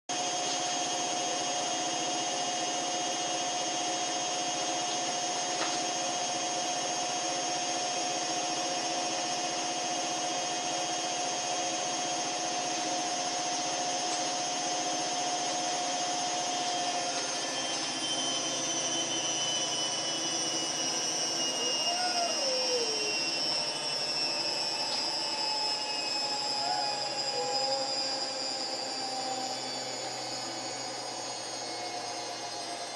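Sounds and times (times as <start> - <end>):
steady machine whine: 0.1 - 32.9
washing machine churning: 0.1 - 32.9.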